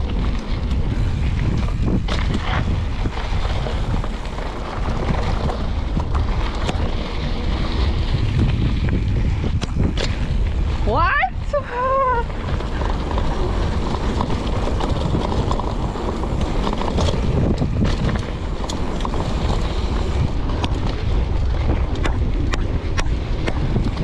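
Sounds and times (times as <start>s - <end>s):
bike tyres rolling on dirt: 0.0s - 24.0s
sharp clicks of bike on bumps: 0.0s - 24.0s
wind buffeting microphone: 0.0s - 24.0s.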